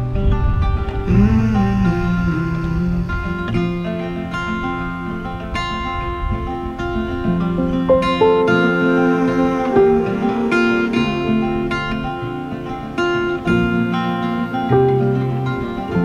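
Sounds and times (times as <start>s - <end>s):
strummed acoustic guitar pop music: 0.0s - 16.0s.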